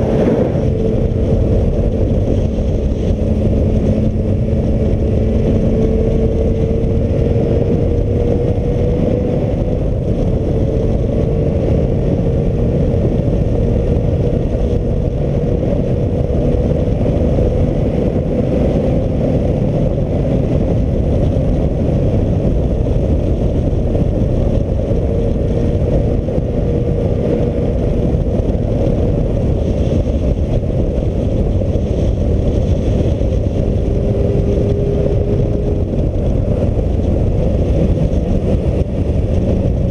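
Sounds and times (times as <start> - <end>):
faint motorcycle engine: 0.0 - 39.9
wind buffeting microphone: 0.0 - 39.9.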